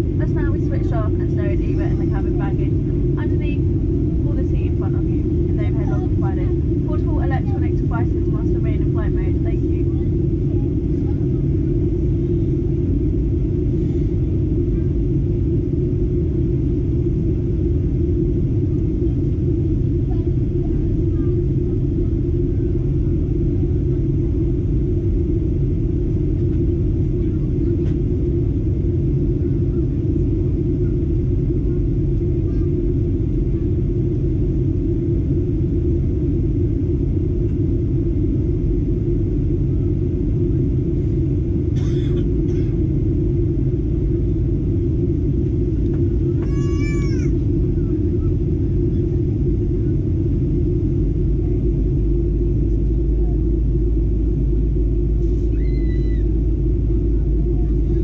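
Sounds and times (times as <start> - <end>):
air rushing along fuselage: 0.0 - 58.0
jet engines rumbling: 0.0 - 58.0.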